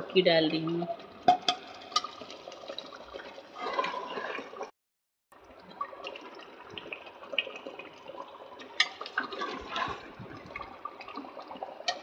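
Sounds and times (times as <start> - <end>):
food bubbling and sizzling in a pot: 0.0 - 12.0.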